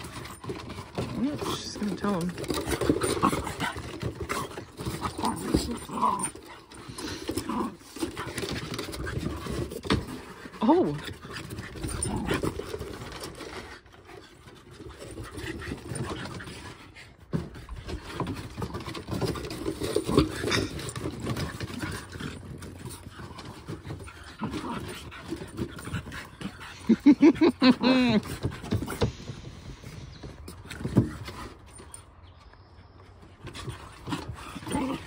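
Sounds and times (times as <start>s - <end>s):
dogs growling: 0.0s - 31.9s, 33.4s - 35.0s
dogs panting: 0.0s - 35.0s.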